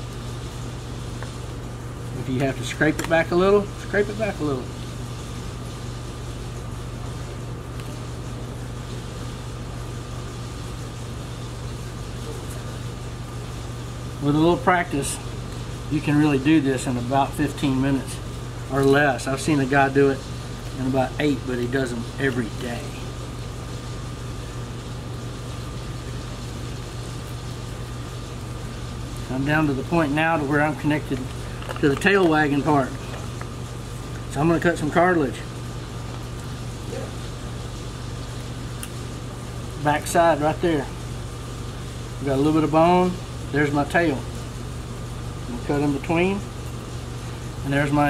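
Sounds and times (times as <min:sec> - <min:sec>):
machine humming drone: 0:00.0 - 0:48.0.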